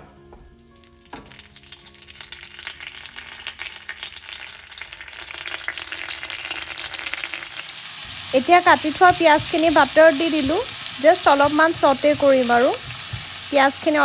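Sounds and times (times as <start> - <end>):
onion frying in butter: 0.8 - 14.0.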